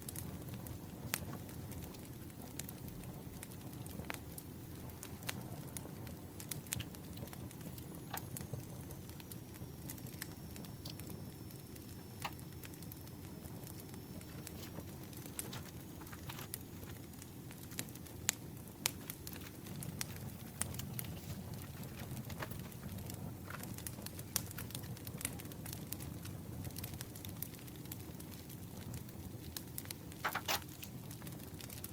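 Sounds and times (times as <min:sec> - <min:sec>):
campfire crackling: 0:00.0 - 0:31.9.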